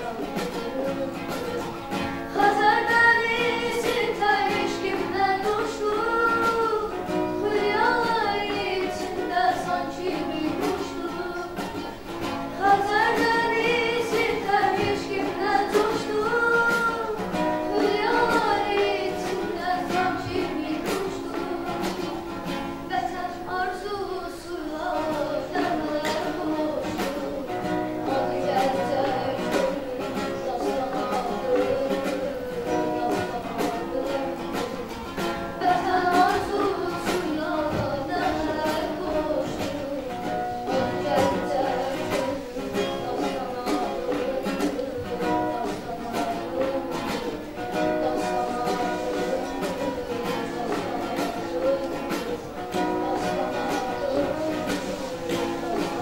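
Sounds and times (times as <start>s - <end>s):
acoustic guitar strumming: 0.0s - 56.0s
girl singing: 0.0s - 56.0s.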